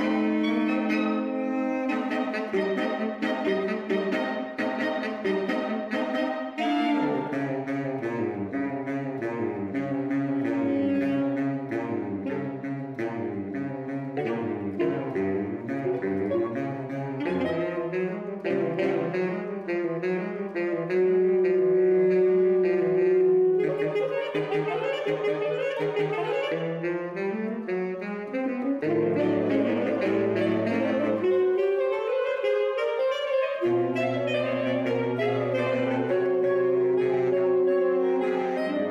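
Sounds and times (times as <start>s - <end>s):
saxophone quartet playing: 0.0s - 38.9s.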